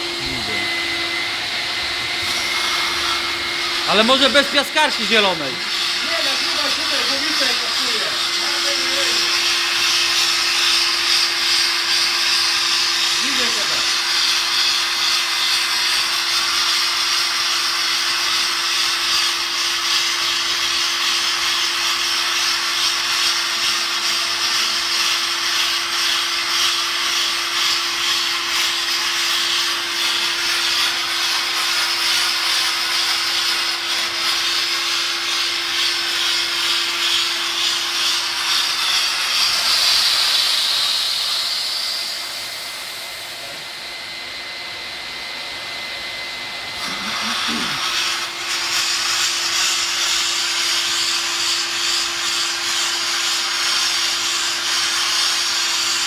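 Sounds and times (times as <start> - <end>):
sandblaster hissing: 0.0 - 43.7, 46.7 - 56.0.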